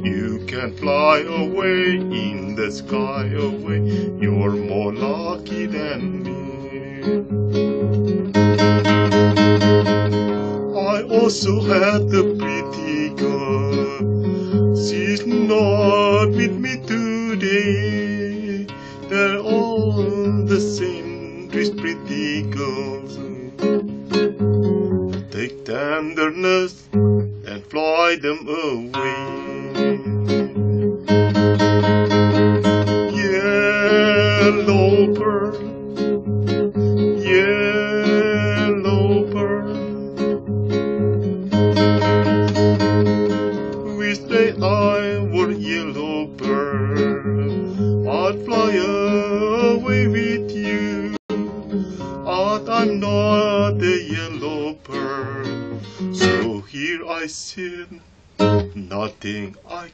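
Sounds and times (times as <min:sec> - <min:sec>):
man singing with vibrato: 0:00.0 - 0:07.7, 0:08.4 - 0:23.8, 0:25.2 - 0:36.0, 0:36.9 - 0:40.3, 0:41.5 - 0:59.9
fingerstyle acoustic guitar: 0:00.0 - 0:59.9.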